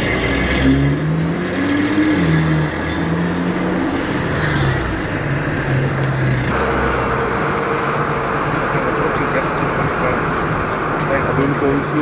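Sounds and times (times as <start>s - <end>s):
turbocharged car engine revving: 0.0s - 12.0s.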